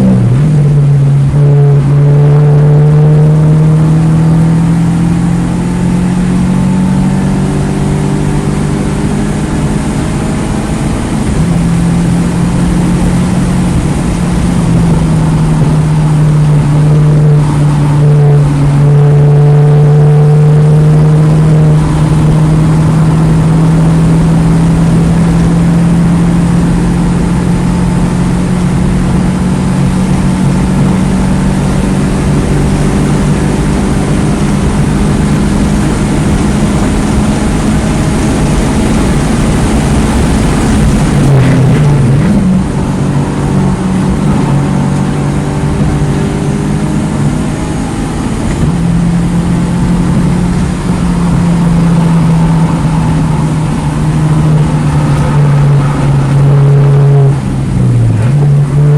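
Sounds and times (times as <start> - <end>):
car engine running hard: 0.0 - 58.9
wind and tyre noise: 0.0 - 58.9.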